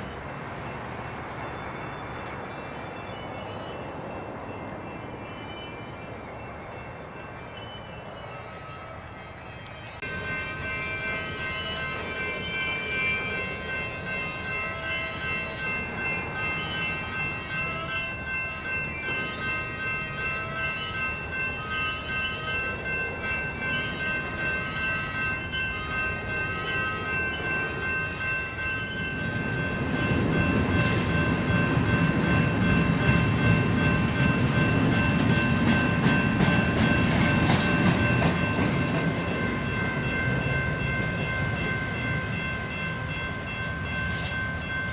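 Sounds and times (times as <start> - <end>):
railroad crossing signal ringing: 0.0 - 44.9
train passing with wheel clicks: 0.0 - 44.9.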